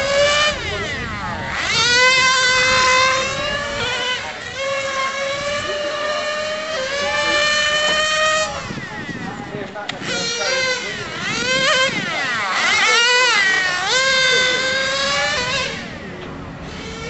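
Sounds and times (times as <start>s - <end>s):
small engine screaming at high revs: 0.0s - 17.0s.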